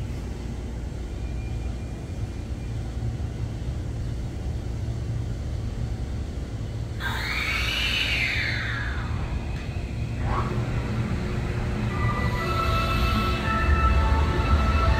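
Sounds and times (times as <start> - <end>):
low railway trackside rumble: 0.0 - 14.9.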